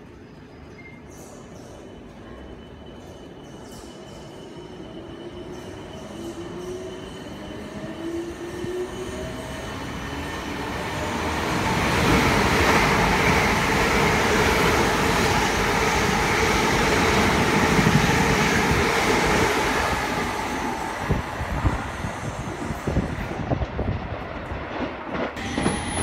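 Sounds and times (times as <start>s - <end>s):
train wheels rumbling on rails: 1.2s - 26.0s.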